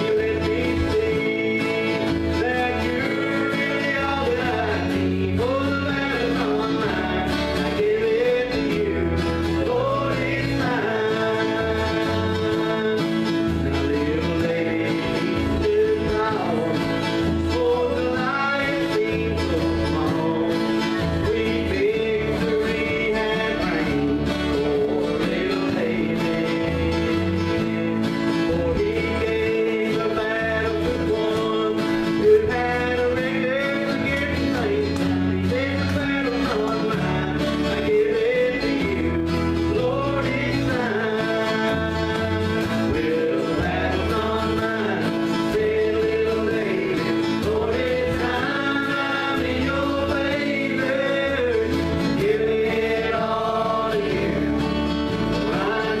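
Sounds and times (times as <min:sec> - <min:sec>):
acoustic guitars strumming: 0:00.0 - 0:56.0
bass line: 0:00.0 - 0:56.0
voices singing: 0:00.0 - 0:56.0.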